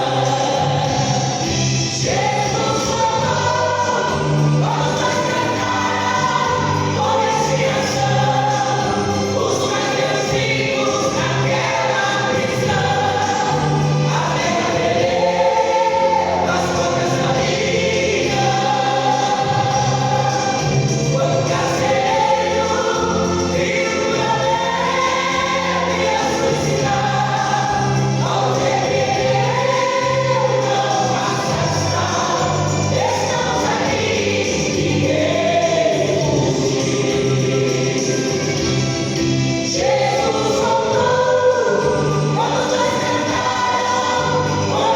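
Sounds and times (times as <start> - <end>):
bass line: 0.0 - 44.9
choir singing a hymn: 0.0 - 44.9.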